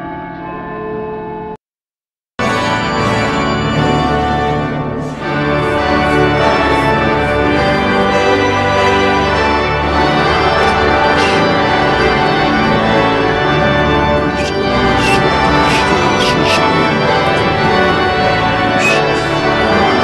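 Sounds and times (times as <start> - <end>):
organ-like keyboard chords: 2.4 - 20.0.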